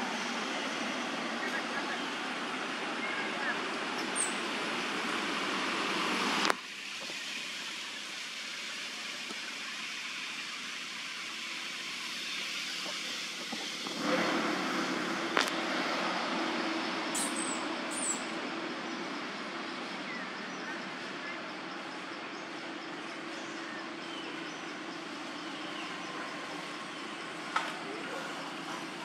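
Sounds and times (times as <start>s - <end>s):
hissing outdoor background noise: 0.0s - 29.0s.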